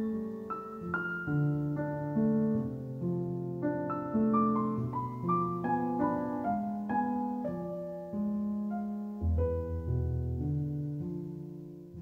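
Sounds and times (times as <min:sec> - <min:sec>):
calm piano music: 0:00.0 - 0:12.0.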